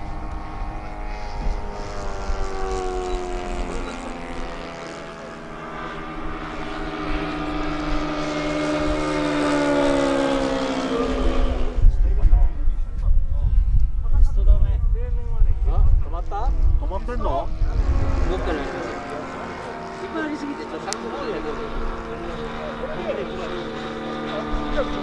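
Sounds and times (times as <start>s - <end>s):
model airplane engine drone: 0.0s - 25.0s.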